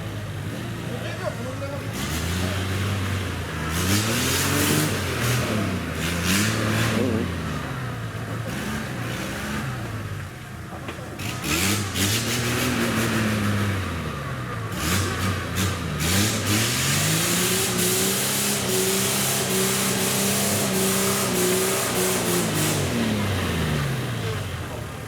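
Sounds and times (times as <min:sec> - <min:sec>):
engine revving: 0:00.0 - 0:10.2, 0:11.2 - 0:25.0.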